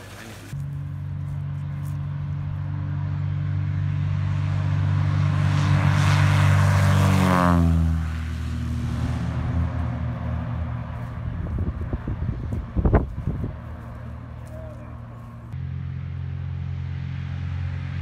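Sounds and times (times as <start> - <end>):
propeller airplane passing by: 0.0 - 18.0.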